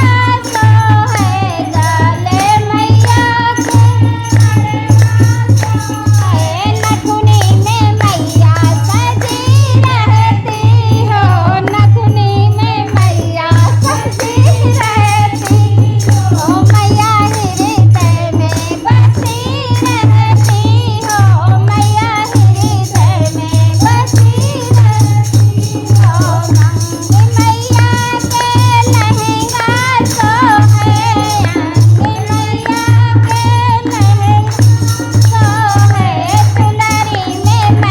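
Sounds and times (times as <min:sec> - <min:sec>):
rattling shaker percussion: 0:00.0 - 0:37.9.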